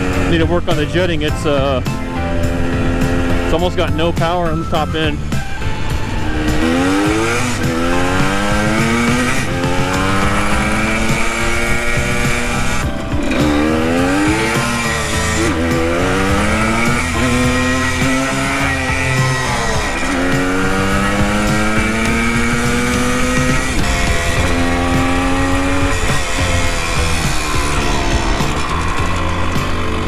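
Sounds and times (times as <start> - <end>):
two-stroke motorcycle engine accelerating: 0.0 - 30.0.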